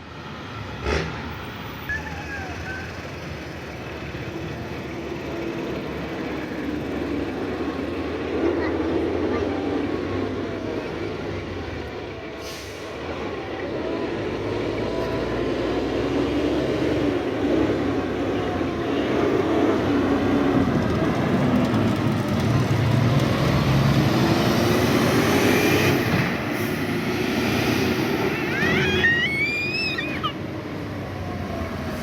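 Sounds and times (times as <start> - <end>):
heavy truck engine passing: 0.0 - 32.0.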